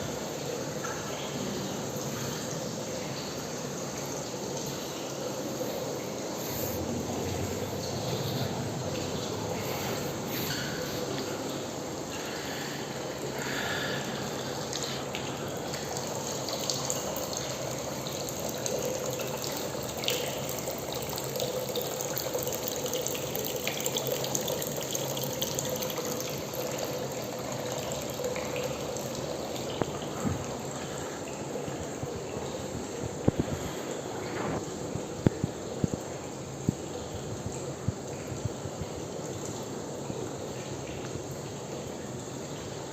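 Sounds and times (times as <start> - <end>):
faint steady hum: 0.0 - 42.9
water running: 0.0 - 42.9.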